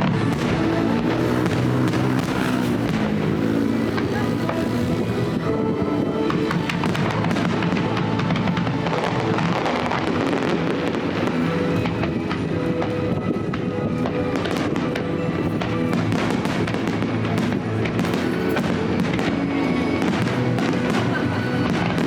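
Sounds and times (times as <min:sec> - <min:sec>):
background music with held tones: 0:00.0 - 0:22.0
fireworks bursting and crackling: 0:00.0 - 0:22.0.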